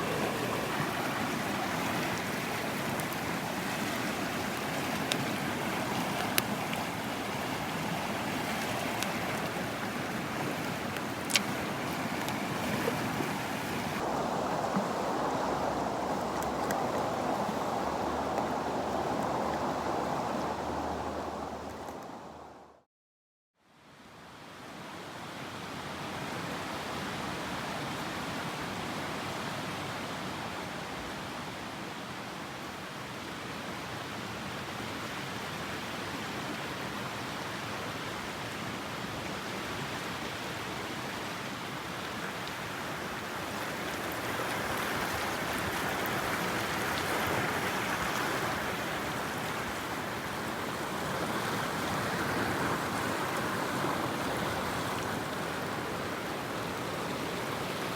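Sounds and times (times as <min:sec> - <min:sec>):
stream rushing over rocks: 0:00.0 - 0:22.5, 0:32.3 - 0:57.9.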